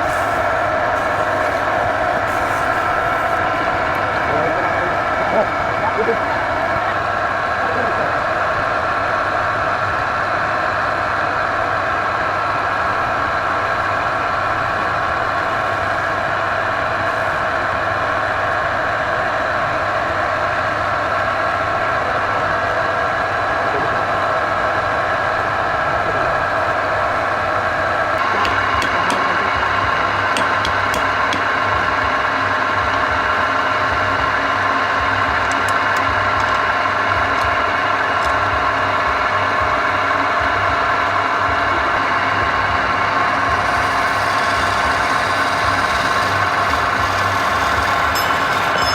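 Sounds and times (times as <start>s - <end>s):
lathe humming: 0.0s - 48.9s.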